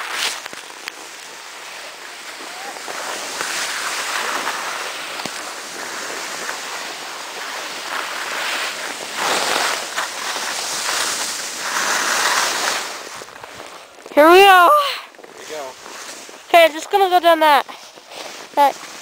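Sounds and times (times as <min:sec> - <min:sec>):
skis scraping over snow: 0:00.0 - 0:19.0.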